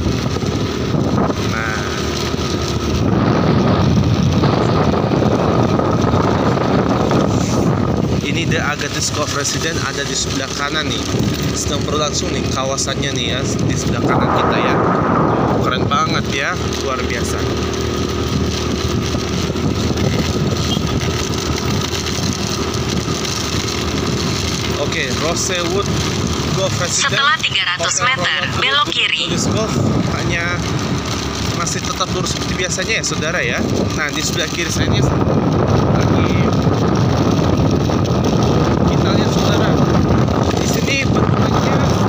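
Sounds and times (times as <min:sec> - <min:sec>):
moving vehicle road noise: 0:00.0 - 0:42.0
wind buffeting microphone: 0:00.0 - 0:42.0.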